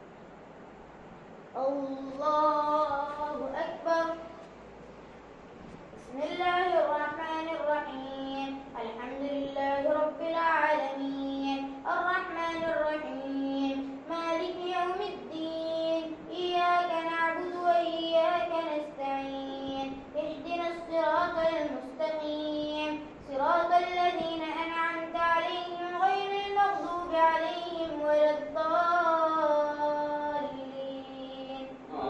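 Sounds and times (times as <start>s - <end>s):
child chanting melodically: 1.6s - 4.5s, 6.0s - 32.0s.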